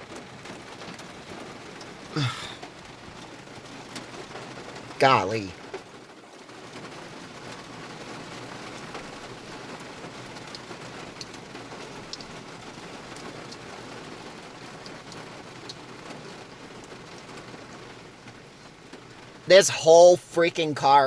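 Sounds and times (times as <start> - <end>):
heavy rain falling: 0.0 - 21.0
raindrops ticking: 0.0 - 21.0.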